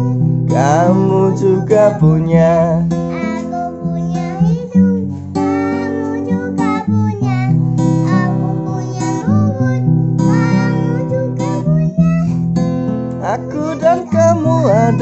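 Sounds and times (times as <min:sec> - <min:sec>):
child singing: 0:00.0 - 0:12.4, 0:13.2 - 0:15.0
strummed acoustic guitar: 0:00.0 - 0:15.0.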